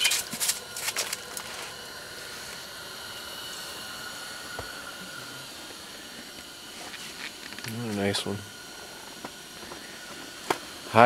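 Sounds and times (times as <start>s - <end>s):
faint high whine: 0.0s - 11.0s
faint hiss: 0.0s - 11.0s.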